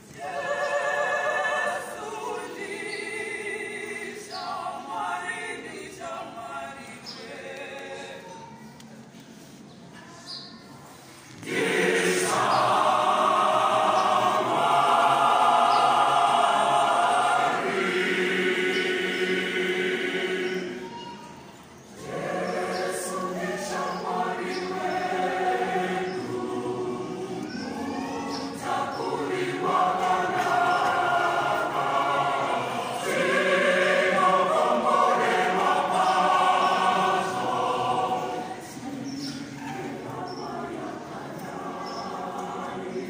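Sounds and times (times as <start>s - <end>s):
mixed choir singing a hymn: 0.0s - 9.6s, 10.9s - 43.0s.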